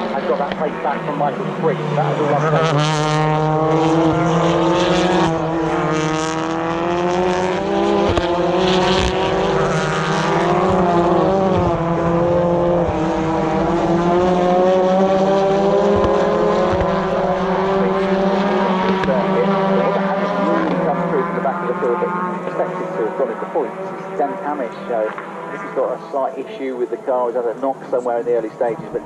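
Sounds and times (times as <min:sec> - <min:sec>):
racing car engines passing: 0:00.0 - 0:29.0.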